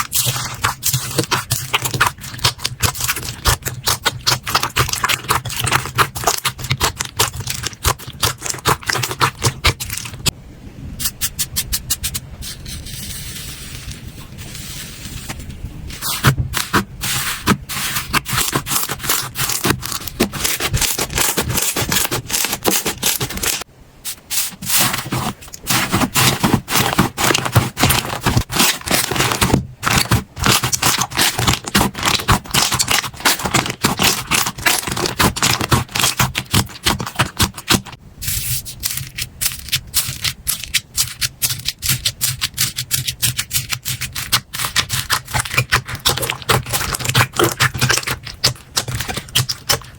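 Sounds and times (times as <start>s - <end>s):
slime squeezed crackling and popping: 0.0s - 10.3s, 16.2s - 23.6s, 26.2s - 38.0s, 38.8s - 49.9s.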